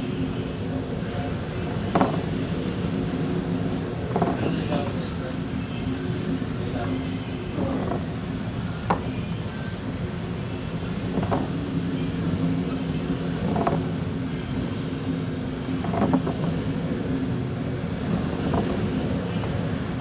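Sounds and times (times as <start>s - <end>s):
boat engine humming: 0.0s - 20.0s
hull splashing on waves: 0.0s - 20.0s.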